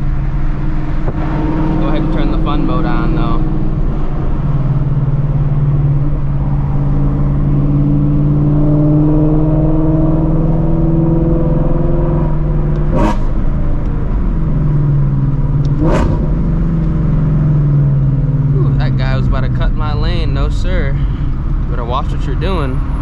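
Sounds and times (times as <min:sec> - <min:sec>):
car engine droning at speed: 0:00.0 - 0:23.0.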